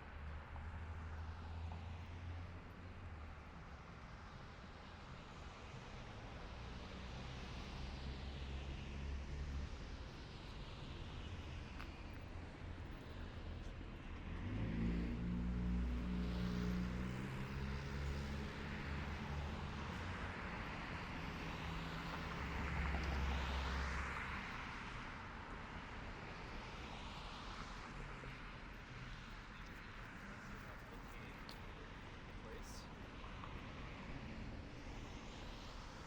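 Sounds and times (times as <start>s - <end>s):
vehicles driving past: 4.8s - 36.0s.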